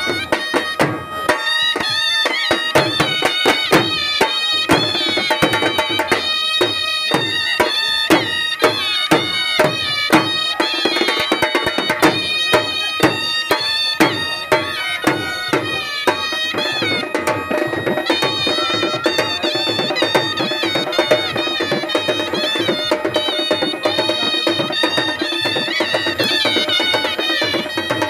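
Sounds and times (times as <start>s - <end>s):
bagpipes playing folk melody: 0.0s - 28.0s
drums beating driving rhythm: 0.0s - 28.0s.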